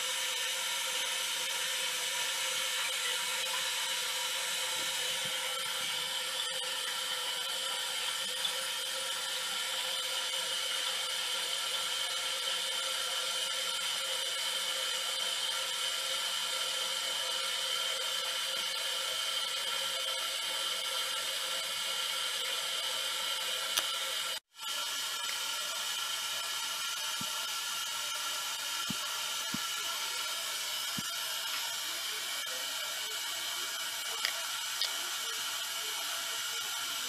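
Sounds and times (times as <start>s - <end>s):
steady whirring hiss with tones: 0.0s - 37.0s.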